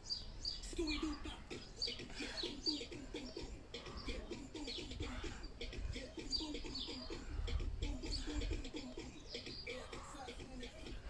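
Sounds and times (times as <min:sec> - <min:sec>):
birds chirping: 0:00.0 - 0:11.0
quick repeated bird notes: 0:00.0 - 0:11.0.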